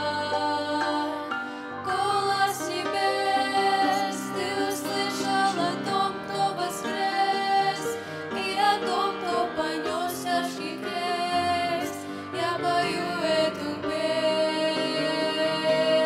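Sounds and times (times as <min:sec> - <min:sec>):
women singing a hymn: 0:00.0 - 0:16.0.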